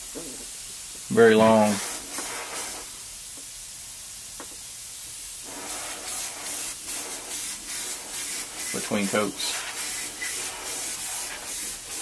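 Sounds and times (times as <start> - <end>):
airbrush spraying in hissing bursts: 0.0 - 12.0.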